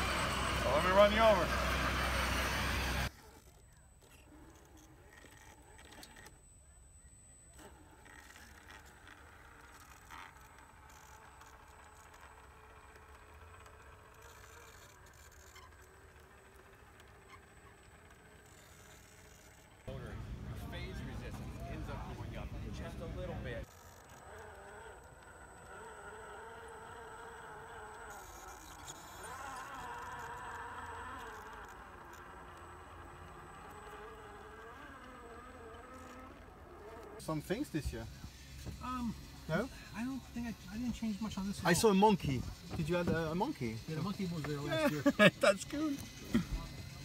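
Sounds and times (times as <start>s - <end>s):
small electric motor whine: 0.0s - 47.0s.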